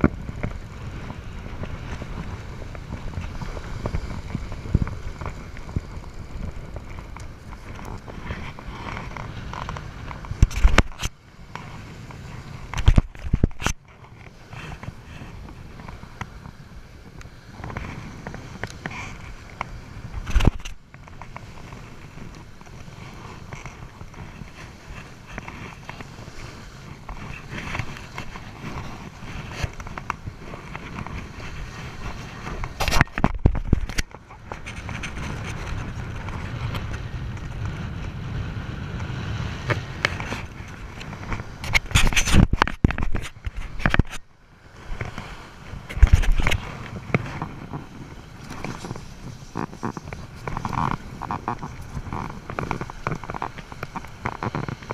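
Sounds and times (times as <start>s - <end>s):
scrapes and rustles on sand: 0.0s - 54.9s
wind rumbling on microphone: 0.0s - 54.9s.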